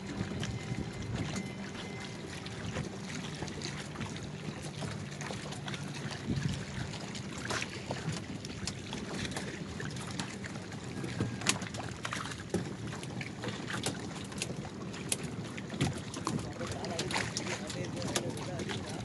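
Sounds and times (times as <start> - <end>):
water lapping against canoe: 0.0 - 19.0.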